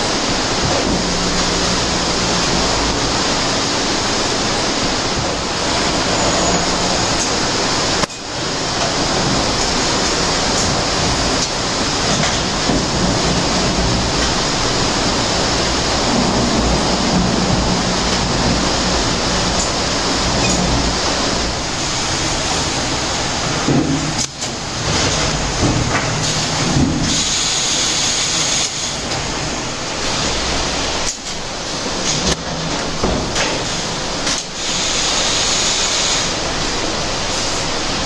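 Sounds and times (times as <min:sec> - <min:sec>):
conveyors running: 0:00.0 - 0:38.0
low machinery hum: 0:00.0 - 0:38.0
packing machine running: 0:00.0 - 0:38.0.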